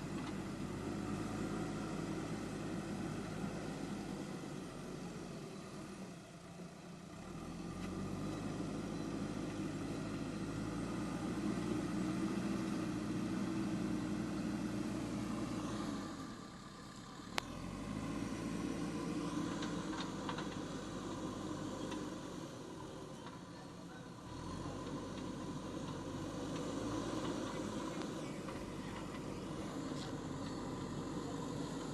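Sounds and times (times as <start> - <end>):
backhoe diesel engine working: 0.0 - 31.9.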